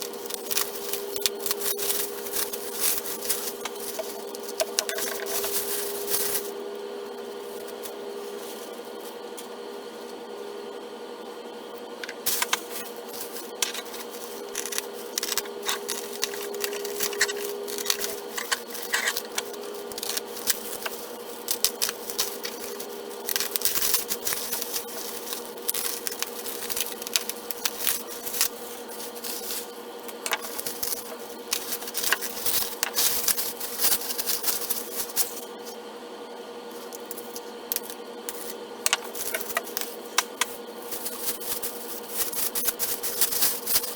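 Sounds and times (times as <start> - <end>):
packaging crinkling and rustling: 0.0 - 6.6, 12.2 - 35.6, 36.9 - 43.9
steady low hum: 0.0 - 43.9.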